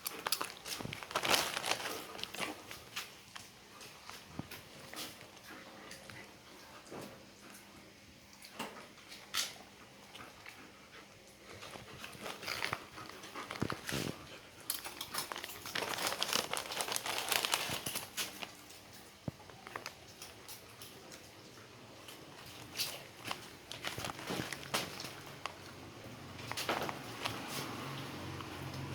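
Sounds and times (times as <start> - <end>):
dogs crunching crackers: 0.0 - 6.3, 11.2 - 28.9.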